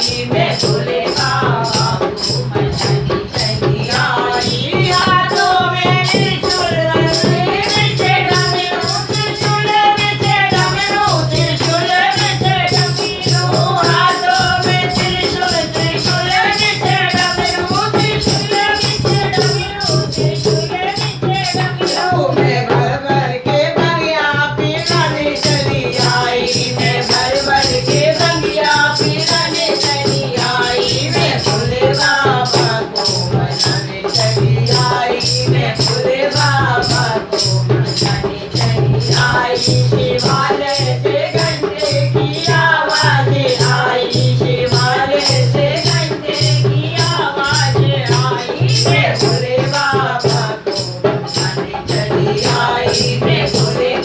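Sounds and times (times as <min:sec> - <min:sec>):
rattling jingling percussion: 0:00.0 - 0:23.5, 0:24.2 - 0:54.0
devotional singing: 0:00.0 - 0:54.0.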